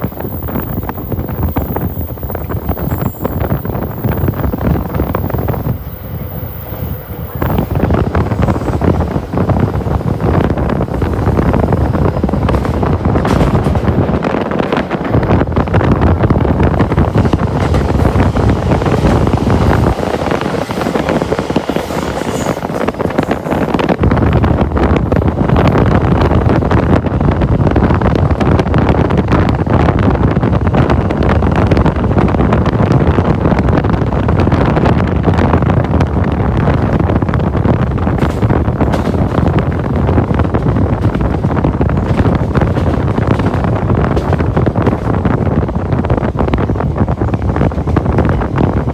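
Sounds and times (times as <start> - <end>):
steady rushing noise: 0.0 - 48.9
wind buffeting microphone: 0.0 - 48.9.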